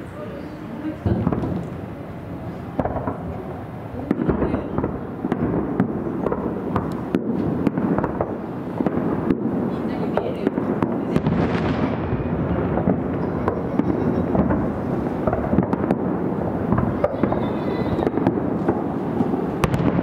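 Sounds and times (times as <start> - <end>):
firework bangs and crackles: 0.0 - 20.0
rumble of firework booms: 1.0 - 20.0.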